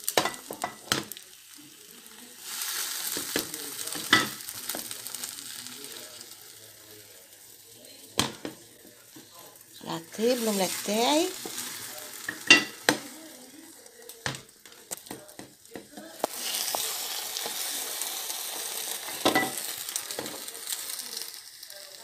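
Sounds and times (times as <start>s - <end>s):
omelette sizzling in a pan: 0.0s - 22.0s.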